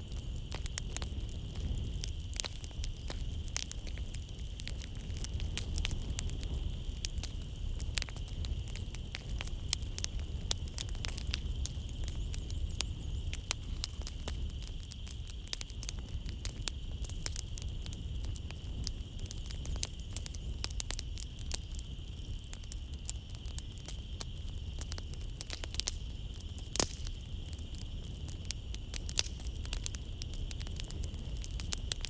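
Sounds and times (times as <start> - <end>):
night insects droning: 0.0 - 32.0
wood fire crackling: 0.0 - 32.0.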